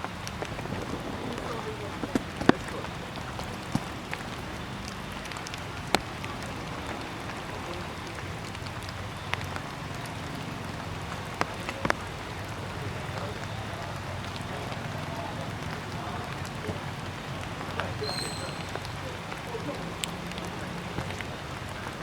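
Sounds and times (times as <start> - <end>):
wet hiss of dripping trees: 0.0 - 22.0.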